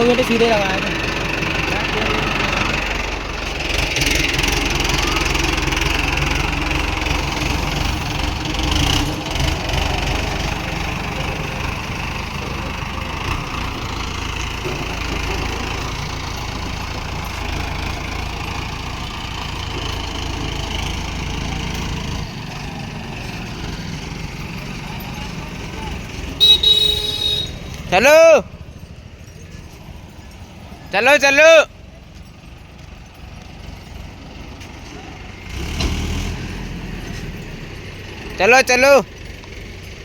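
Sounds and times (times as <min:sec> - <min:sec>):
tractor diesel engine rumbling: 0:00.0 - 0:40.0.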